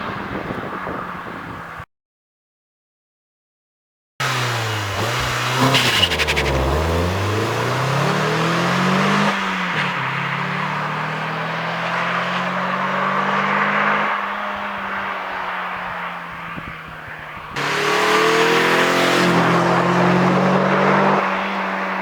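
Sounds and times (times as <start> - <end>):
car engine accelerating: 4.2 - 22.0.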